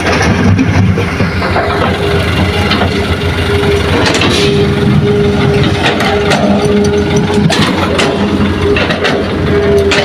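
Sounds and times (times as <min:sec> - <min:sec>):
heavy diesel engine drone: 0:00.0 - 0:10.0
hydraulic whine: 0:01.4 - 0:10.0.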